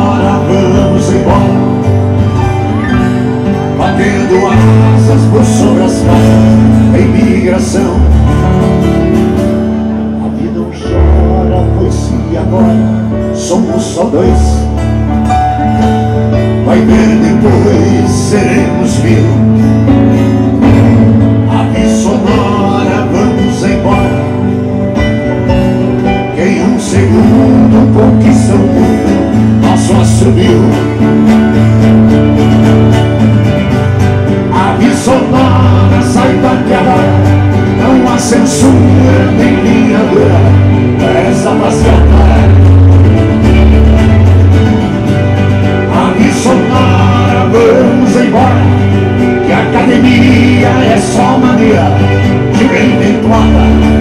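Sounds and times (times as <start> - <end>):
acoustic guitars strummed and plucked: 0.0 - 54.0
keyboard bass notes: 0.0 - 54.0.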